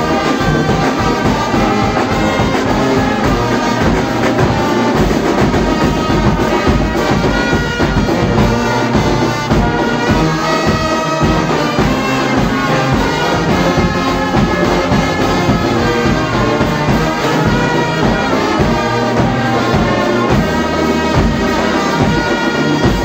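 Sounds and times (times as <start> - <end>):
bass drum beats: 0.0 - 23.0
brass band chords: 0.0 - 23.0.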